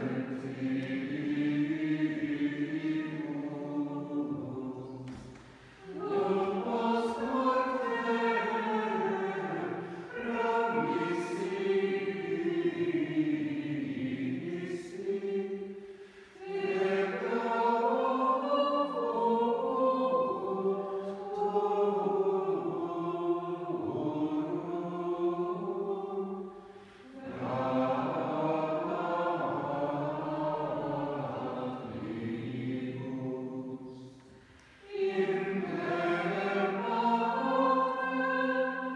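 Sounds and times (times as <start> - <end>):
congregation singing a chant: 0.0 - 38.9.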